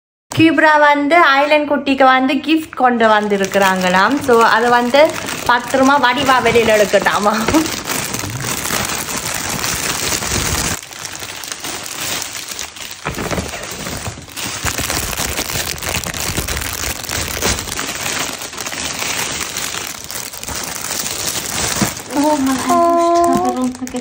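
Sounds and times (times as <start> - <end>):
gift wrapping crinkling: 2.8 - 24.0.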